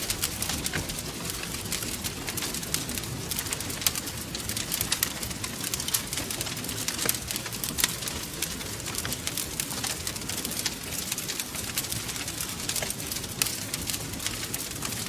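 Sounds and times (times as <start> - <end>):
low rumble of burning: 0.0 - 15.0
wood fire crackling and popping: 0.0 - 15.0.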